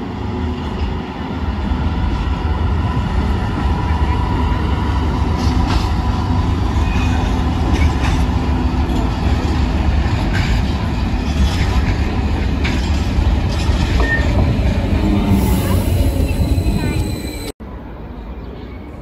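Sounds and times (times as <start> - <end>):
train deep rumble: 0.0 - 17.6.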